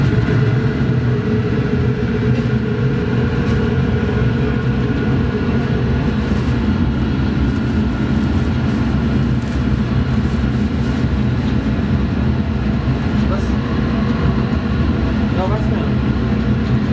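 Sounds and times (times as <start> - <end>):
machine droning steadily: 0.0 - 16.9.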